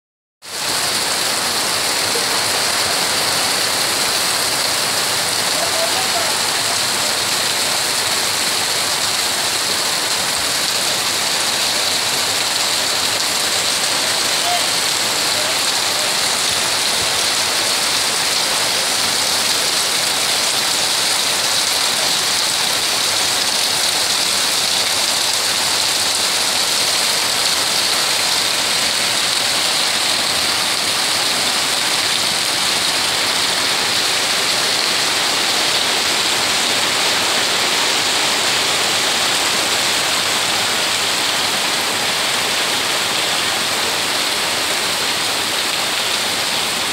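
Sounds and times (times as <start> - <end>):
heavy rain on metal roofs: 0.4 - 46.9.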